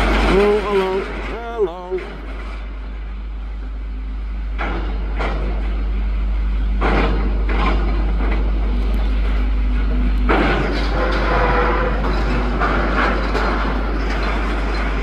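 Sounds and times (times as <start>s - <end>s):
excavator low rumble: 0.0s - 15.0s.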